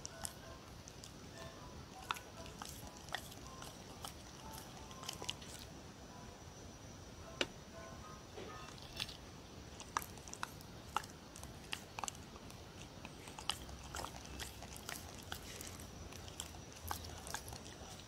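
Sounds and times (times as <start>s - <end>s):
dog licking and nibbling cucumber: 0.0s - 5.7s, 8.7s - 18.0s.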